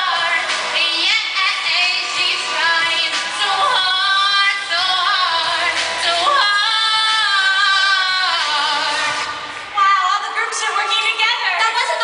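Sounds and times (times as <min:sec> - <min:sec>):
choir singing pop song: 0:00.0 - 0:12.0.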